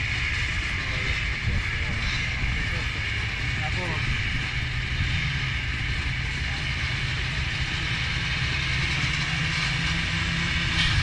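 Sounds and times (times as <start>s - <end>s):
motocross bike engines: 0.0s - 11.0s.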